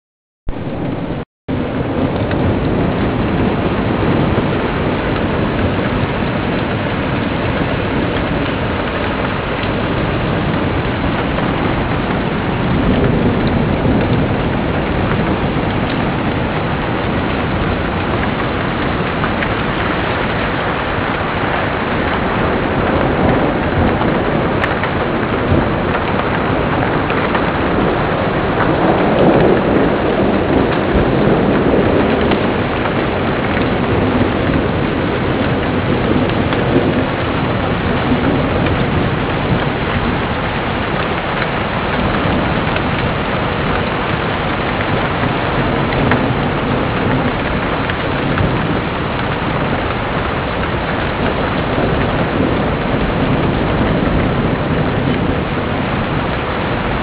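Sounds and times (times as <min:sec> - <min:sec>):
heavy rain: 0:00.5 - 0:57.0
thunder rumbling: 0:00.5 - 0:57.0.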